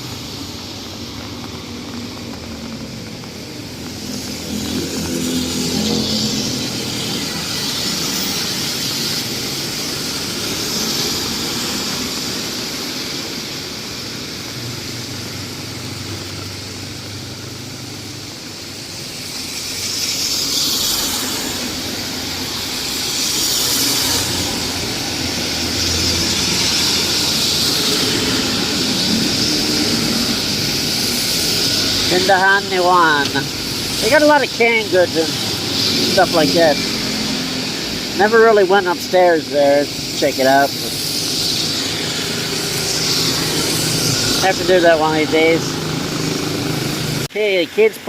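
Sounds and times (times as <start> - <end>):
tyres hissing on wet road: 0.0 - 48.0
vehicle engines running: 0.0 - 48.0.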